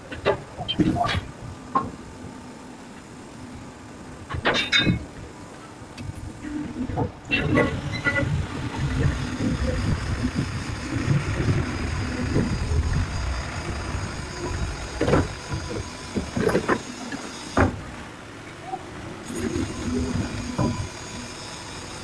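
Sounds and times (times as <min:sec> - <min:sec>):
workshop machinery rumbling: 0:04.4 - 0:22.0.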